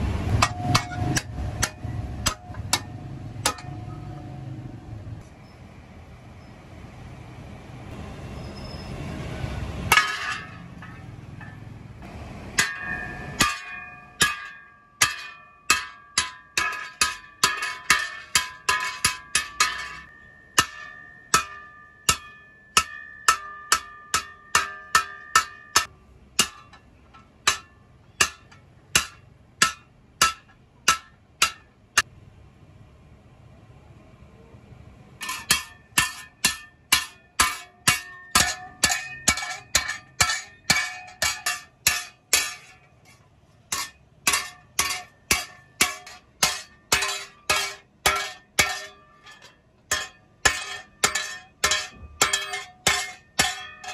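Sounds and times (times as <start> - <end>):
hammer striking metal blade: 0.3 - 4.4, 9.9 - 11.8, 12.5 - 32.1, 35.2 - 53.9.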